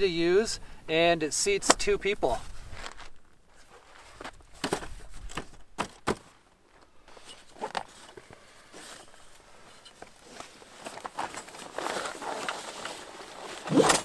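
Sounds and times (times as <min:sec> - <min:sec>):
camp furniture being moved: 0:01.6 - 0:14.0.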